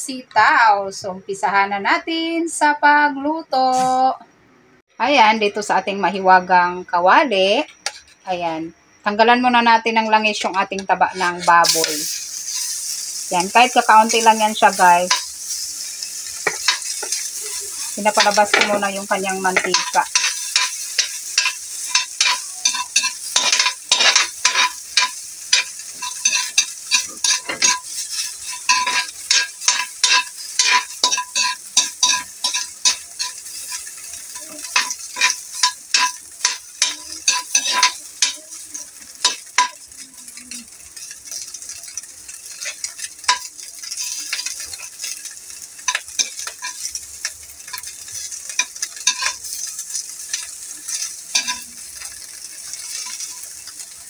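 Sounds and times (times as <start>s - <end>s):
fat sizzling: 5.3s - 54.0s
metal spatula scraping a wok: 7.7s - 8.3s, 10.5s - 54.0s.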